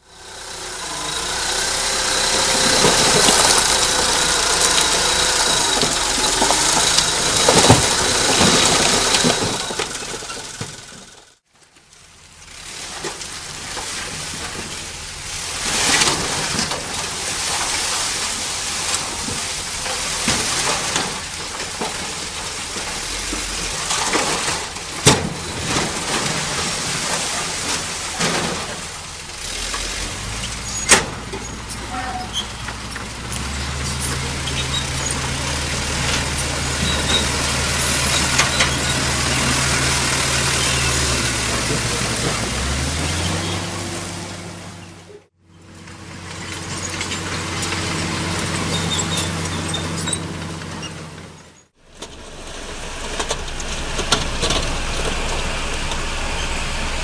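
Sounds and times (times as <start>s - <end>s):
diesel construction machinery: 0.0s - 57.0s.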